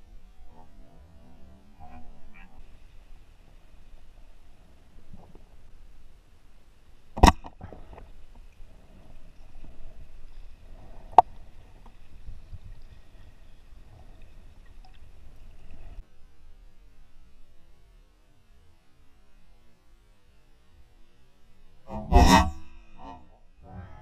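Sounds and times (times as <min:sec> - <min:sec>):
low rumble of water: 0:00.0 - 0:24.0.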